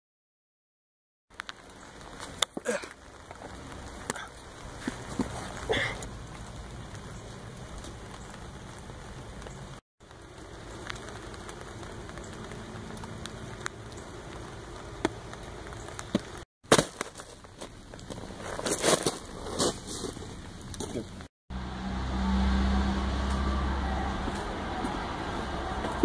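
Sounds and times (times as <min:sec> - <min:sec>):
outdoor background hiss: 0:01.3 - 0:24.6.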